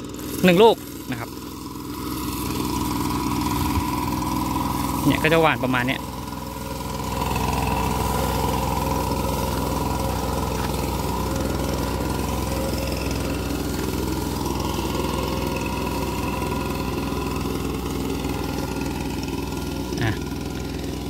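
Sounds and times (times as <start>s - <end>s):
backpack blower engine running: 0.0s - 21.0s.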